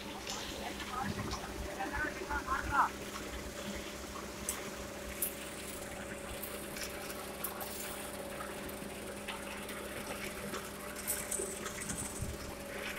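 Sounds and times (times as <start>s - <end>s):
steady mechanical hum: 0.0s - 12.9s.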